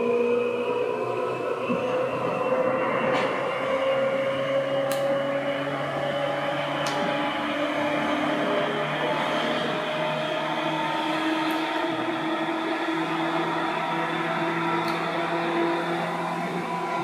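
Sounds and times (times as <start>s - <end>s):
electric train running: 0.0s - 17.0s
humming tones: 0.0s - 17.0s.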